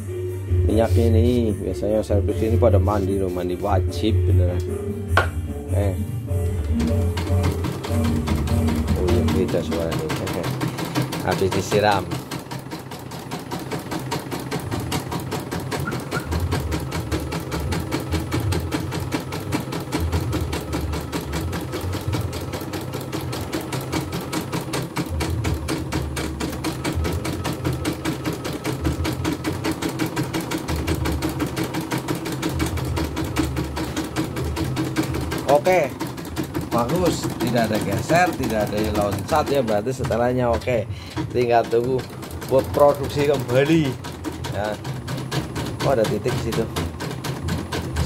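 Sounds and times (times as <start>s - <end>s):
embroidery machine clattering: 6.6s - 48.0s.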